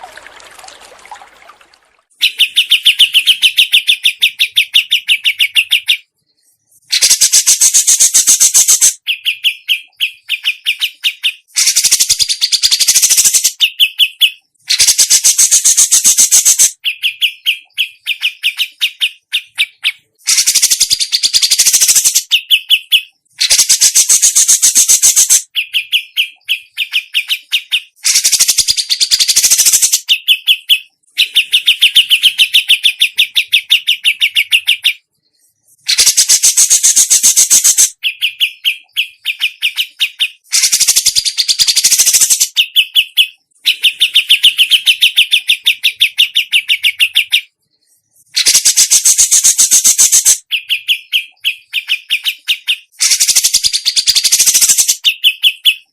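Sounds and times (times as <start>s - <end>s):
songbird trills: 0.0s - 55.9s.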